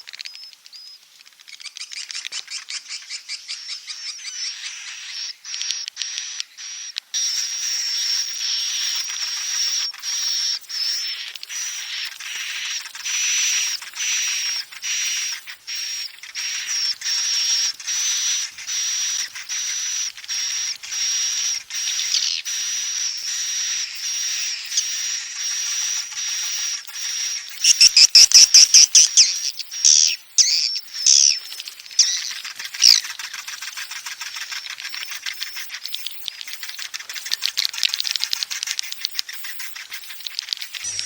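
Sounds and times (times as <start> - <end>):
fast rattling bird trill: 1.6 - 41.0.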